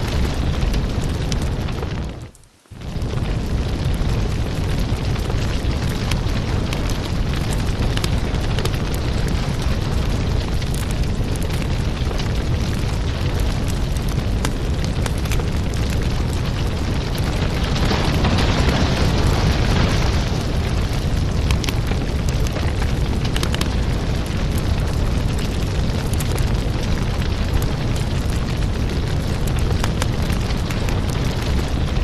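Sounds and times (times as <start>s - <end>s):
wood fire burning: 0.0s - 32.0s.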